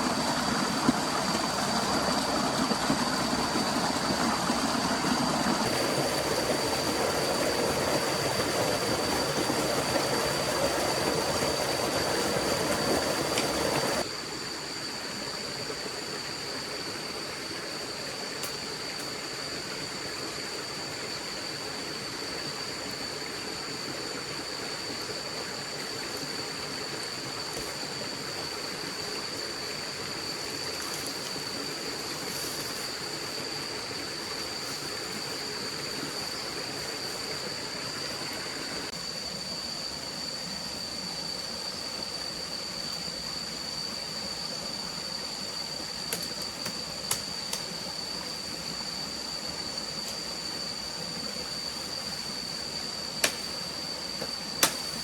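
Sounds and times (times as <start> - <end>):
stream flowing: 0.0 - 14.1, 18.5 - 55.0.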